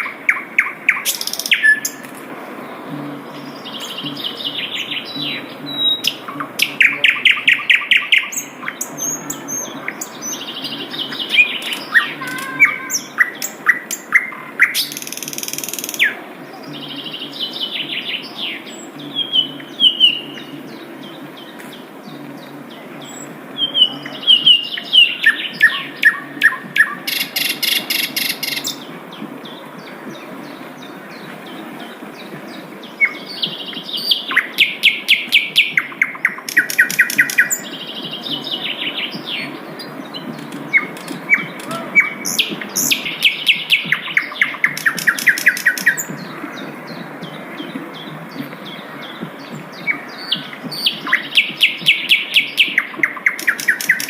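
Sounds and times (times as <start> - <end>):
flycatcher singing: 0.0 - 31.6, 32.2 - 54.0.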